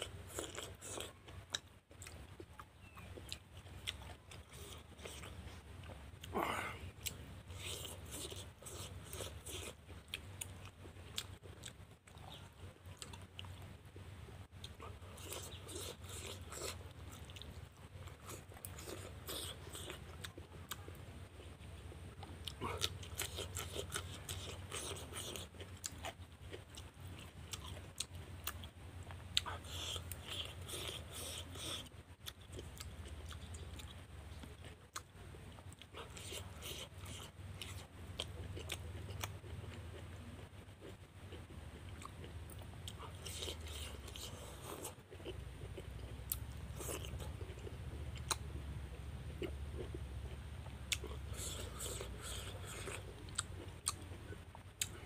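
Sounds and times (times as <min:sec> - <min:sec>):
person chewing crunchy food: 0:00.0 - 0:13.7, 0:14.6 - 0:48.6, 0:49.3 - 0:55.0.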